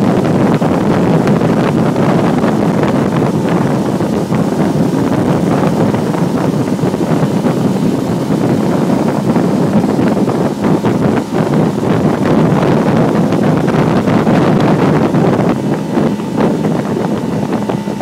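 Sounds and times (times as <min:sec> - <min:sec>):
boat rushing through water: 0:00.0 - 0:18.0
wind buffeting microphone: 0:00.0 - 0:18.0.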